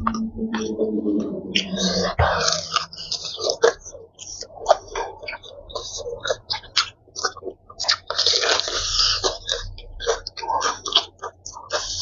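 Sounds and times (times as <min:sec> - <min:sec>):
crunching fried chicken: 0:02.4 - 0:12.0.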